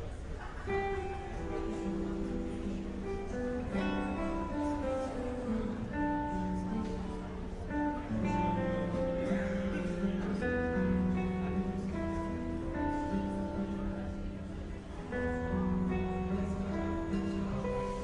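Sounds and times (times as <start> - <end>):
acoustic guitar music: 0.1 - 18.0.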